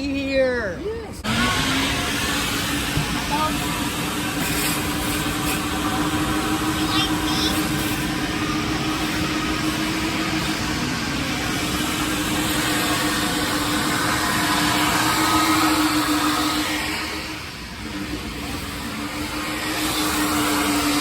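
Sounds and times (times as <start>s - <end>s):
vacuum hum: 1.2s - 21.0s
vacuum rushing air: 1.2s - 21.0s.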